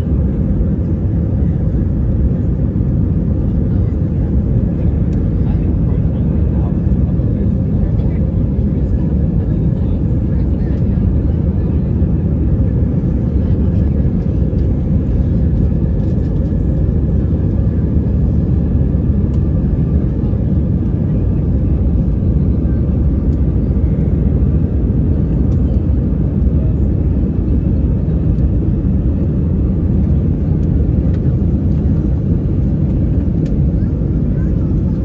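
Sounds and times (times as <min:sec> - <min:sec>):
aircraft cabin engine rumble: 0:00.0 - 0:35.0.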